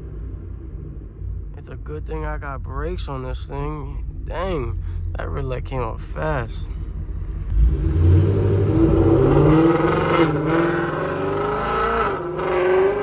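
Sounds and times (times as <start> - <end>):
car engine accelerating hard: 1.6 - 13.0.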